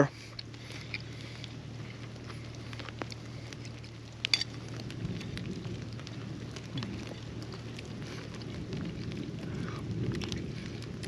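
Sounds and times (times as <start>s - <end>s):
campfire crackling: 0.0s - 11.0s
light rain pattering: 0.0s - 11.0s.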